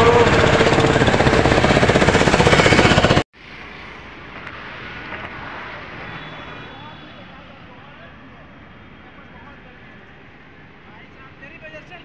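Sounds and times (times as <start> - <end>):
faint outdoor background: 1.2 - 12.0.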